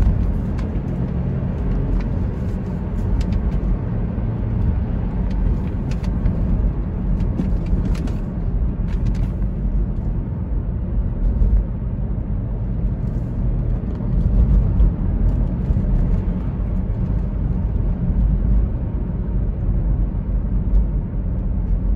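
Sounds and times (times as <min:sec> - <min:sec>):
car interior road rumble: 0:00.0 - 0:21.9.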